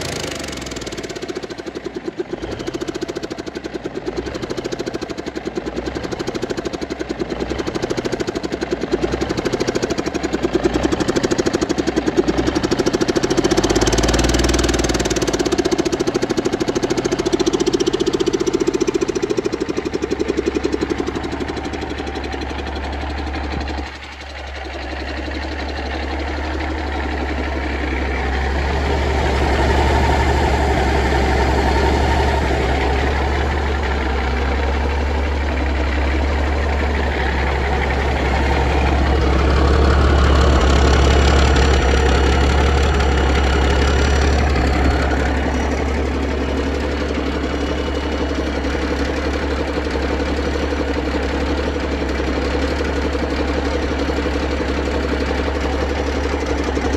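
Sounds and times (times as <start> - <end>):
turbo diesel engine running: 0.0 - 56.9.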